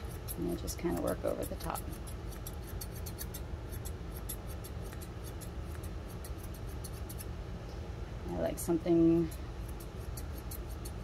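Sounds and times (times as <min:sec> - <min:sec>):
thinning shears snipping hair: 0:00.0 - 0:07.3, 0:08.8 - 0:11.0.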